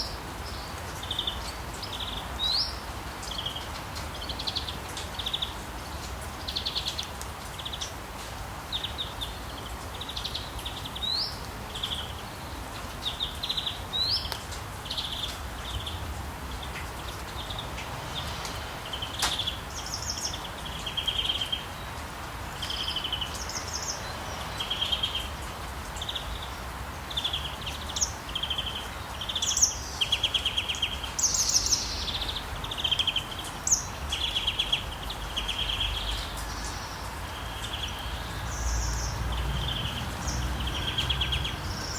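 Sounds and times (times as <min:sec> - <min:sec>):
rain hiss: 0:00.0 - 0:41.9
songbirds chirping: 0:00.0 - 0:41.9.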